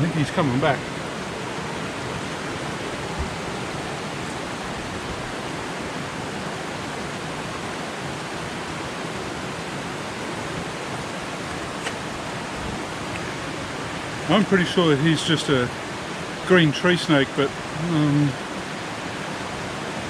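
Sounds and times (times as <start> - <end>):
waterfall rushing into rock pool: 0.0 - 20.0.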